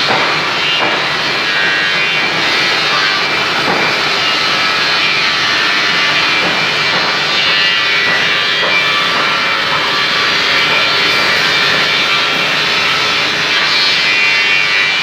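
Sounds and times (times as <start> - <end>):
machine hissing roar: 0.0 - 15.0.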